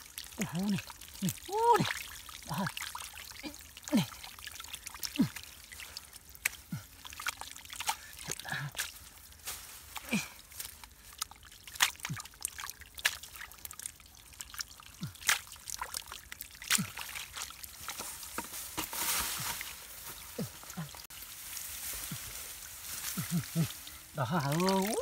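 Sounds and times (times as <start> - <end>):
hands squelching through wet mud: 0.0 - 25.0
muddy water pouring: 0.0 - 25.0
muddy water splats and drips: 0.0 - 25.0.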